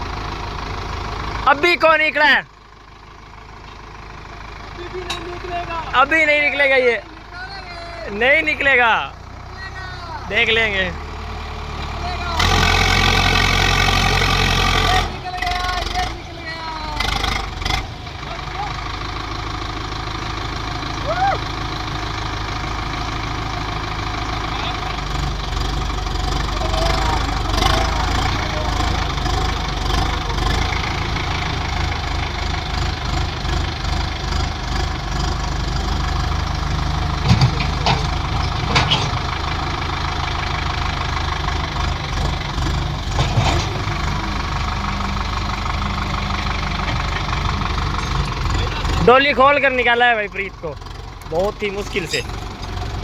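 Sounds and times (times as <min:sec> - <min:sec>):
tractor engines under load: 0:00.0 - 0:53.0.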